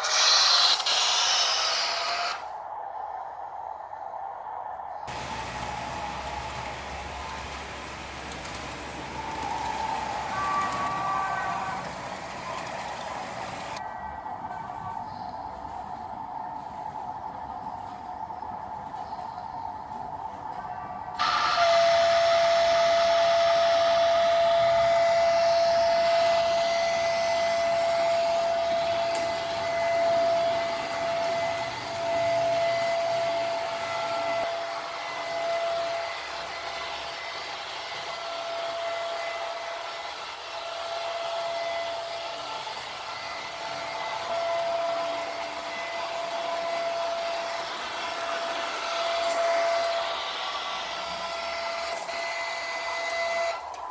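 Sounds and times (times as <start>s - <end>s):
model train electric whine: 0.0s - 2.5s, 5.1s - 13.8s, 20.5s - 53.9s
wheels hissing on track: 4.8s - 53.9s.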